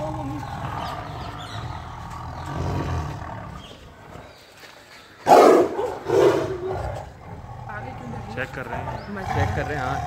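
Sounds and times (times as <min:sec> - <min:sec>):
tiger roaring: 0:00.0 - 0:04.3, 0:05.3 - 0:10.0.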